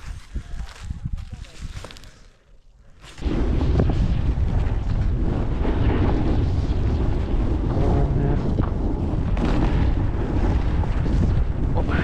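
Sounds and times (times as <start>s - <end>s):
blizzard wind buffeting microphone: 0.0s - 12.0s.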